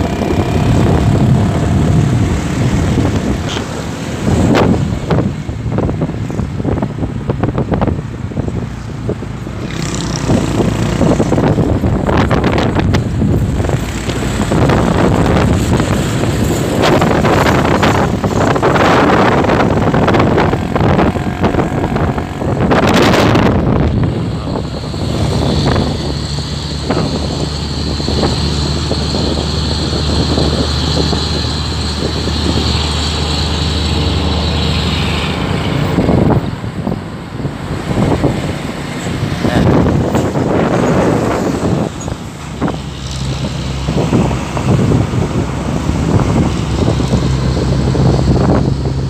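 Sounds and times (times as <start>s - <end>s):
engine drone with high whine: 0.0s - 49.0s
trucks rushing past: 0.0s - 49.0s
wind and road rumble: 0.0s - 49.0s.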